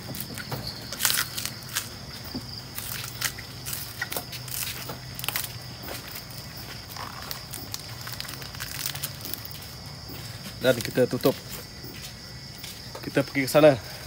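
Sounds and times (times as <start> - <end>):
banana leaf crinkling: 0.0 - 14.0
high insect drone: 0.0 - 14.0.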